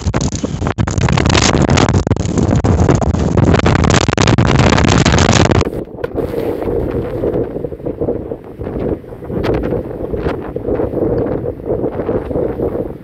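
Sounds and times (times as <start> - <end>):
breaking surf: 0.0 - 13.0
wind buffeting microphone: 0.0 - 13.0.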